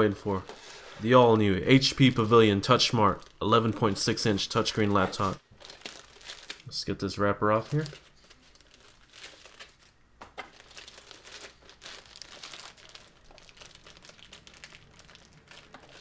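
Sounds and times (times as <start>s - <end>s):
plastic wrapper crinkling: 1.9s - 6.7s, 7.5s - 16.0s.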